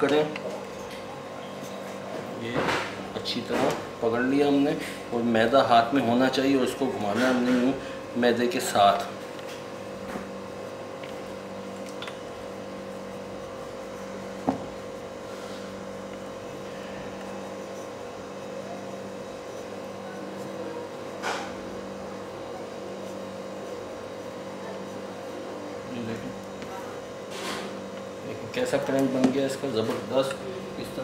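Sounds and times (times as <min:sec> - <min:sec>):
background hum: 0:00.0 - 0:31.0.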